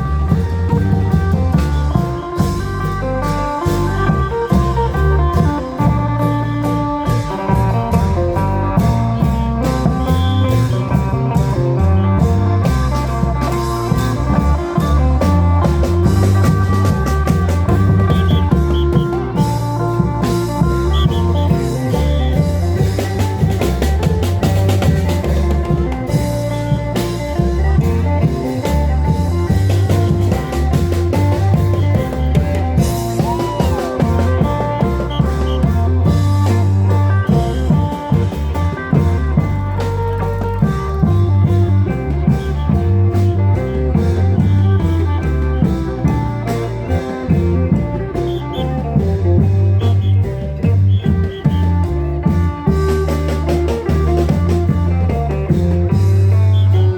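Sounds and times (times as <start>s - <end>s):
heavy bass line: 0.0s - 56.9s
plucked lead melody: 0.0s - 56.9s
steady drum beat: 0.0s - 56.9s.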